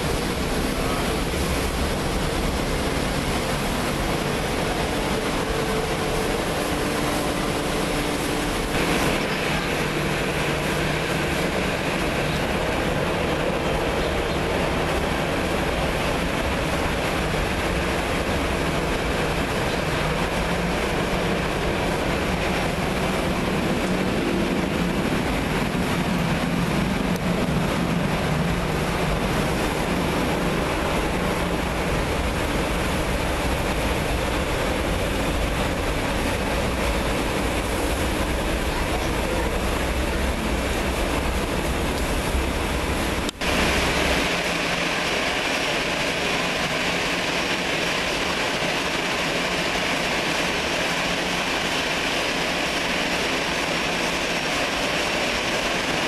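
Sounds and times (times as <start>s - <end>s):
heavy rain: 0.0s - 56.0s
jet engines rumbling: 0.0s - 56.0s.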